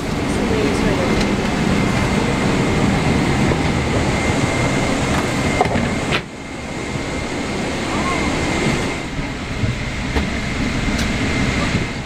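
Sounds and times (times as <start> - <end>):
cabin air-conditioning rush: 0.0 - 12.0.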